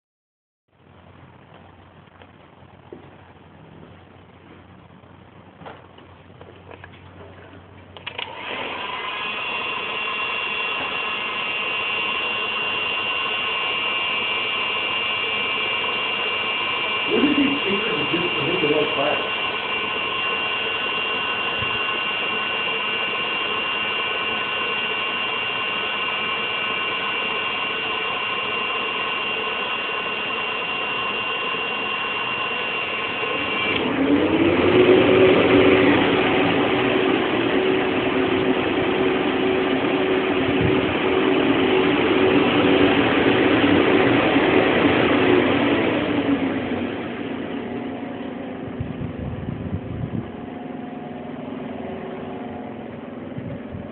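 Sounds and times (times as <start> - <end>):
blower fans whining: 0.7 - 53.9.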